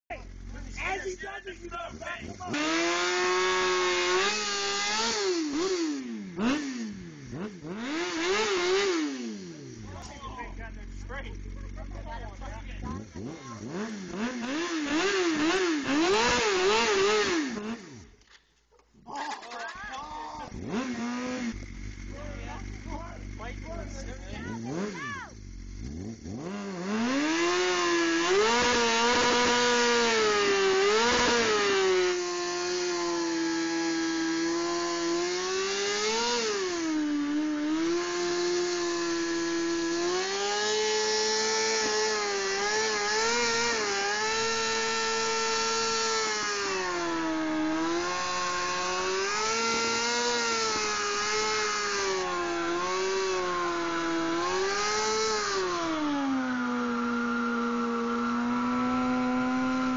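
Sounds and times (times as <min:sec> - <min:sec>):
motorcycle engine revving high: 0:00.1 - 0:18.2, 0:19.1 - 0:59.9.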